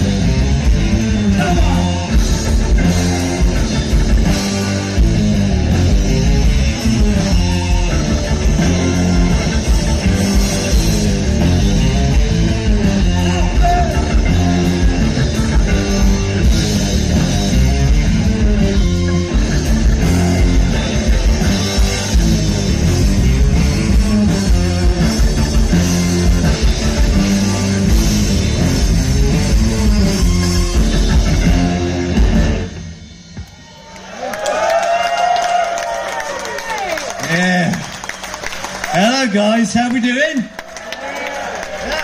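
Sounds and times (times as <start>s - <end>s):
live rock band playing: 0.0s - 34.1s.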